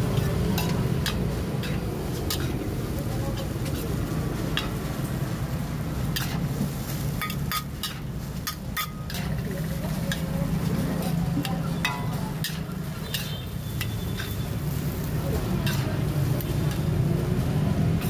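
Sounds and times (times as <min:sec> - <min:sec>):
frying sizzle: 0:00.0 - 0:18.0
metal spatula scraping a wok: 0:00.0 - 0:18.0.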